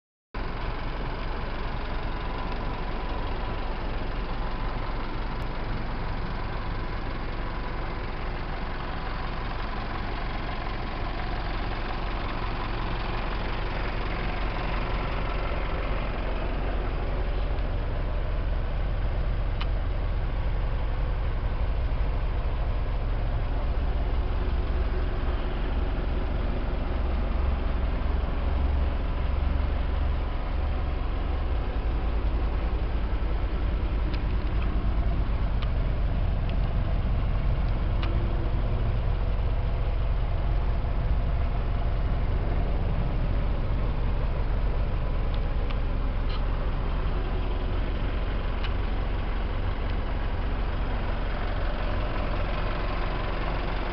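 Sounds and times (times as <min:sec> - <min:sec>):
fire truck engine idling: 0:00.4 - 0:53.9.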